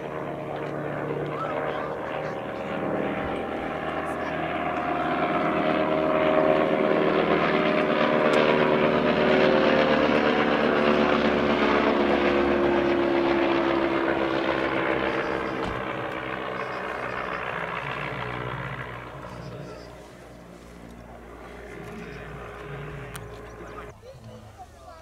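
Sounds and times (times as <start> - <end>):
propeller plane flying past: 0.0 - 25.0.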